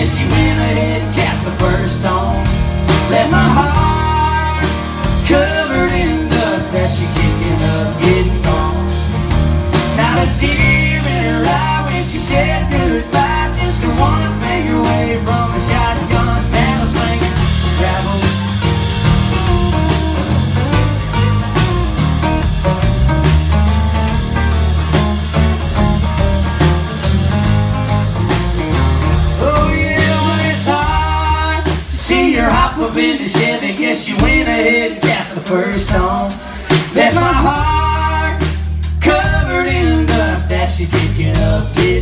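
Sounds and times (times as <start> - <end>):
acoustic guitars playing country music: 0.0 - 42.0.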